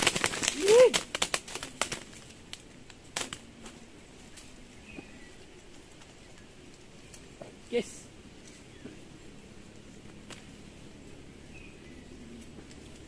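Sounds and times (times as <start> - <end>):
doves flapping and struggling: 0.0 - 13.0
rustling among branches: 0.0 - 13.0.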